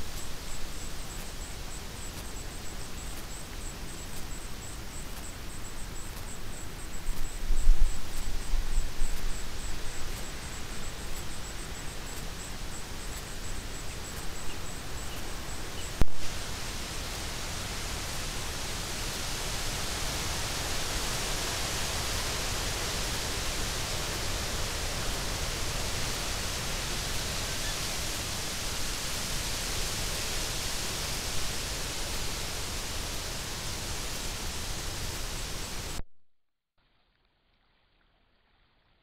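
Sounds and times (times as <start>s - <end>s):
high-pitched hiss: 0.0s - 36.0s.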